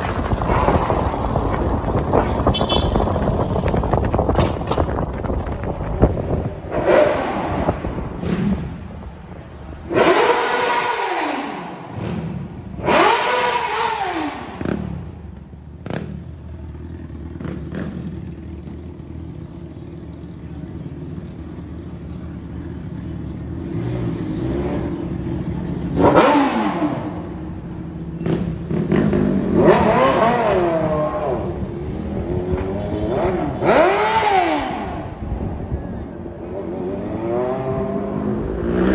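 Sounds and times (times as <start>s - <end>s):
taxi road drone: 0.0s - 38.9s
vehicles passing by: 0.0s - 38.9s.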